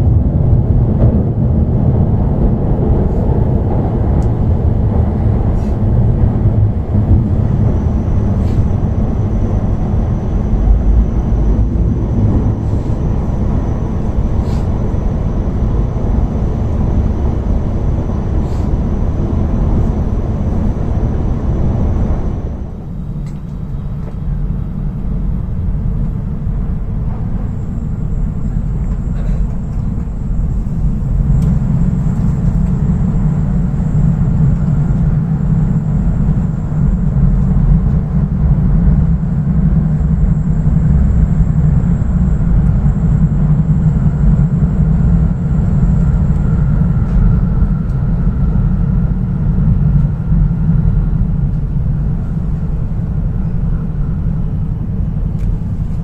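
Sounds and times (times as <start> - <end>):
train low rumble from inside: 0.0 - 56.0.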